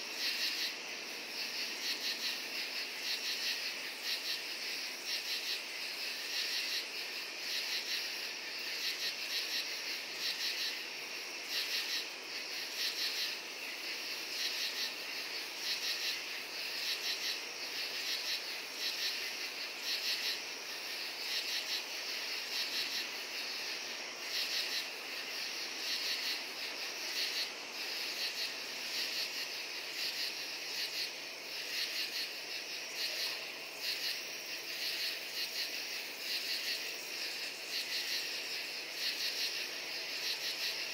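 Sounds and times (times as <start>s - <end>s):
insects chirping chorus: 0.0s - 40.9s.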